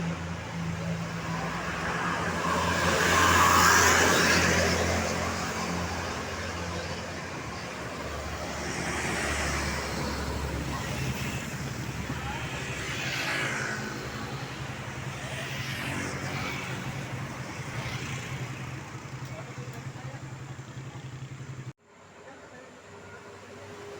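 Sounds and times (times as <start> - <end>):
vehicles passing: 0.0 - 23.9.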